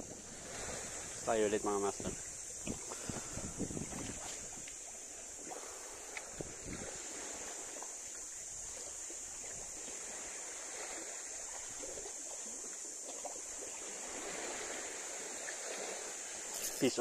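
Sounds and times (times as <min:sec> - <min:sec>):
constant high hiss: 0:00.0 - 0:17.0
seawater lapping at shoreline: 0:00.0 - 0:17.0.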